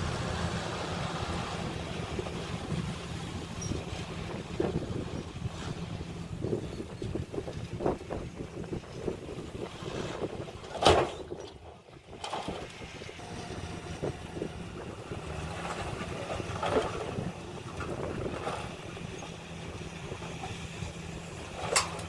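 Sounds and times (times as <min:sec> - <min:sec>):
diesel engine of earthmoving machinery: 0:00.0 - 0:22.0.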